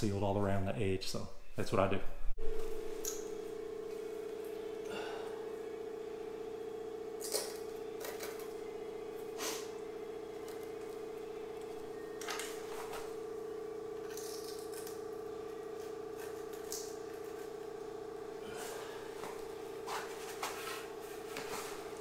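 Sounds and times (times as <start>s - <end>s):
steady mid-pitched hum: 0.0s - 22.0s.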